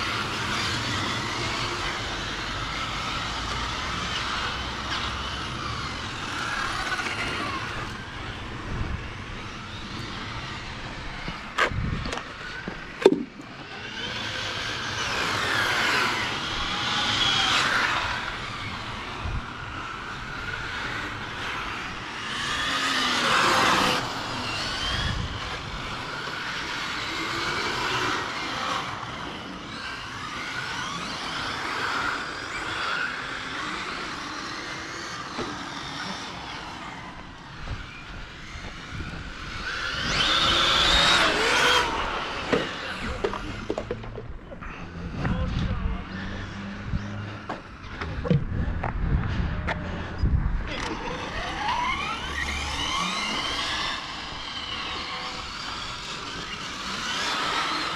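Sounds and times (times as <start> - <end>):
model car motors whining: 0.0 - 57.9.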